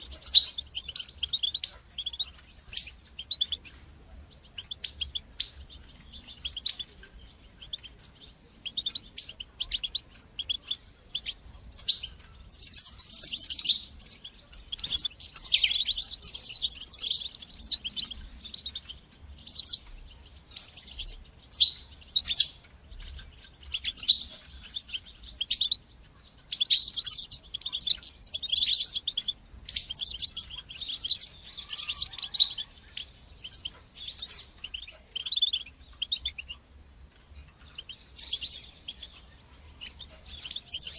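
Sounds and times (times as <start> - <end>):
finch twittering song: 0.0 - 40.9.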